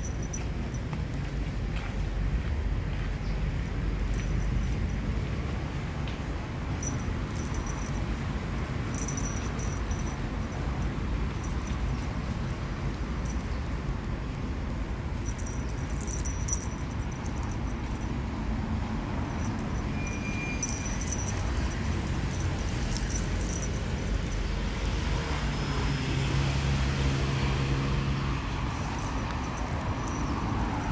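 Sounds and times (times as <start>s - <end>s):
light metallic jingling: 0.0s - 1.2s, 3.7s - 30.9s
steady low rumble: 3.7s - 30.9s.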